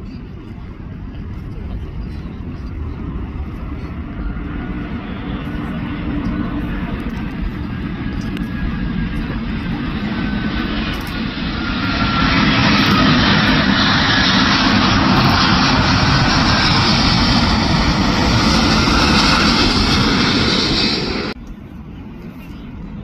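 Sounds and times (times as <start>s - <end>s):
jet airliner passing overhead: 0.0s - 23.0s
faint falling jet whine: 2.4s - 21.4s.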